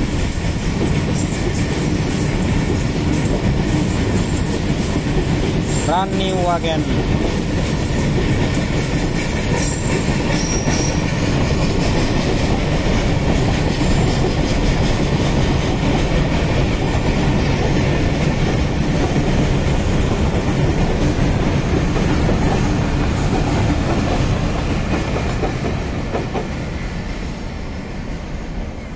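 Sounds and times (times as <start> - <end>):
freight train wheels clattering: 0.0 - 28.3.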